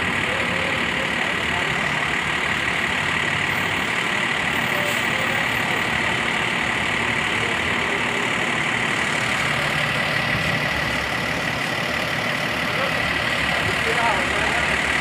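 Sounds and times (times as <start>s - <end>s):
bus engines idling: 0.0s - 15.0s.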